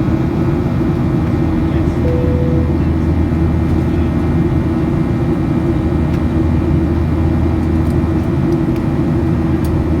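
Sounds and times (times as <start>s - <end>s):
jet engine cabin drone: 0.0s - 10.0s.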